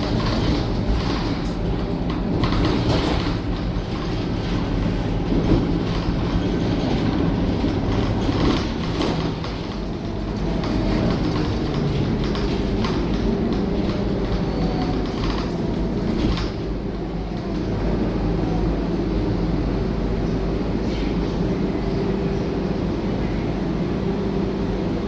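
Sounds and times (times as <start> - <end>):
bus diesel engine drone: 0.0 - 25.0
road and body rumble: 0.0 - 25.0.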